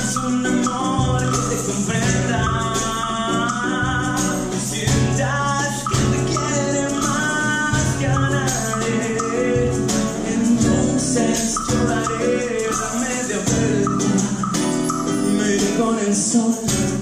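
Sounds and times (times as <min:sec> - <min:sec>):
percussive guitar strikes: 0:00.0 - 0:15.8
classical guitar playing: 0:00.0 - 0:17.0
man singing: 0:00.0 - 0:17.0.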